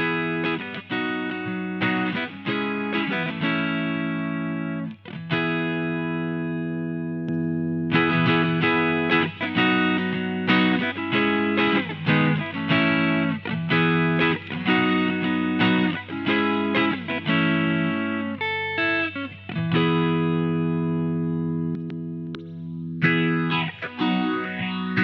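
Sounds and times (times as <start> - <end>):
electric guitar strumming chords: 0.0 - 25.0.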